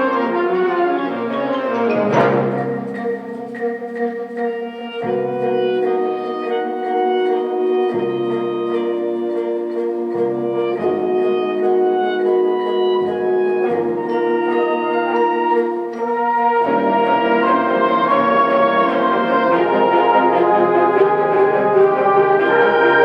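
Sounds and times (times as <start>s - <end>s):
symphonic band playing: 0.0s - 23.0s.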